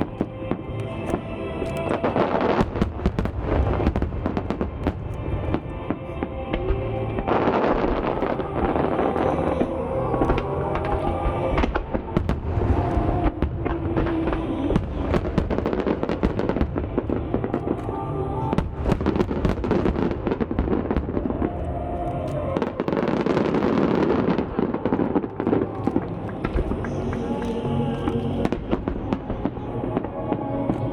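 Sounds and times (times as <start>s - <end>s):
fireworks exploding and crackling: 0.0s - 30.9s
music: 0.0s - 30.9s.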